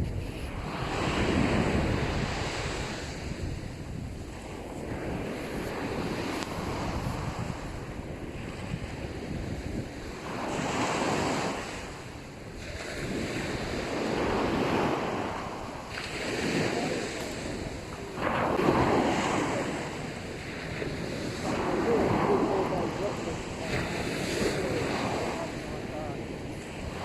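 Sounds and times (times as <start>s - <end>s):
waves breaking on beach: 0.0s - 27.0s
wind on microphone: 0.0s - 27.0s.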